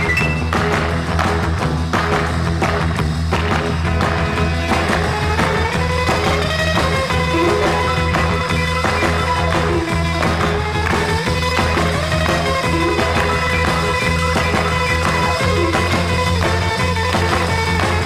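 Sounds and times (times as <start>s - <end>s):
instrumental music with bass line: 0.0s - 18.0s.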